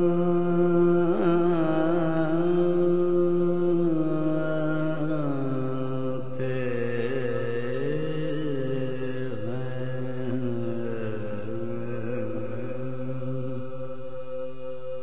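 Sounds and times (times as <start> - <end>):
man chanting with long held notes: 0.0 - 15.0.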